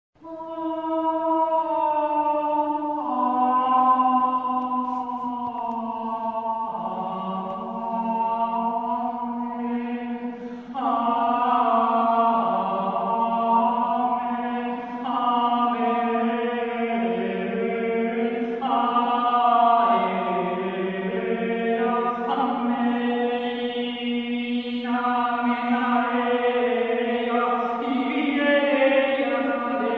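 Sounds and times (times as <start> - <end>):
woman singing wordless chant: 0.2 - 29.9.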